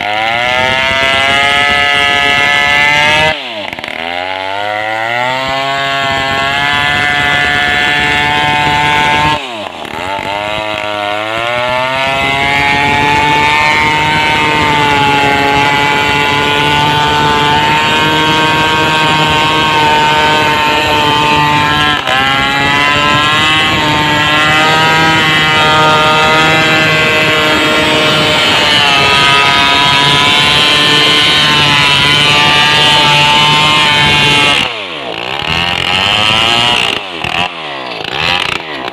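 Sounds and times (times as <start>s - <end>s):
chainsaw cutting a log: 0.0s - 38.9s.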